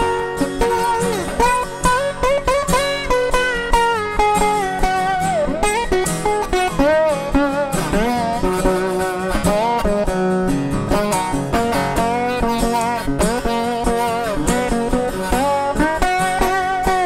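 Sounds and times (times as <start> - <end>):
slide guitar playing blues: 0.0 - 17.0.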